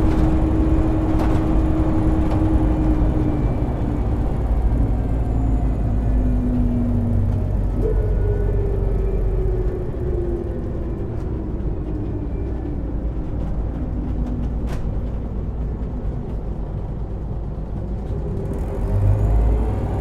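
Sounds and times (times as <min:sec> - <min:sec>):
bus drivetrain whine: 0:00.0 - 0:20.0
low rumble: 0:00.0 - 0:20.0.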